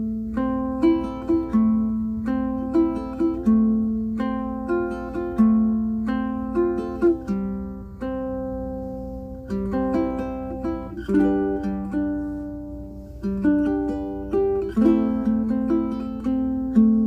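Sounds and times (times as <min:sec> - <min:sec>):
ukulele plucked melody: 0:00.0 - 0:17.0.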